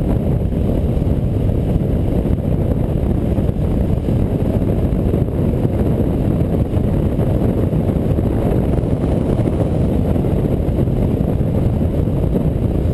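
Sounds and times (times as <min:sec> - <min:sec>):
motorcycle engine running: 0:00.0 - 0:12.9
wind buffeting microphone: 0:00.0 - 0:12.9.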